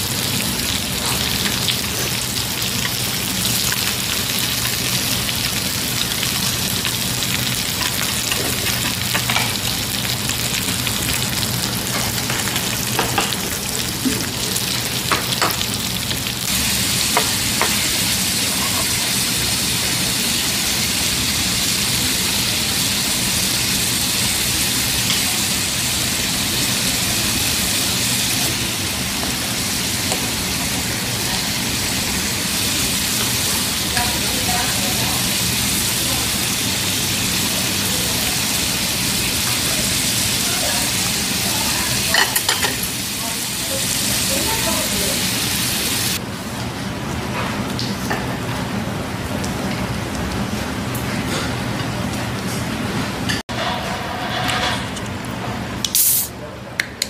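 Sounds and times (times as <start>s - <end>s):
meat sizzling on a grill: 0.0s - 46.2s, 56.0s - 56.3s.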